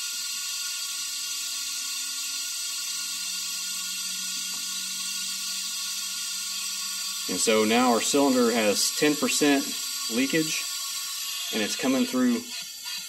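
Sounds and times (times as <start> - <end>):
compressed air hissing: 2.3 - 13.0.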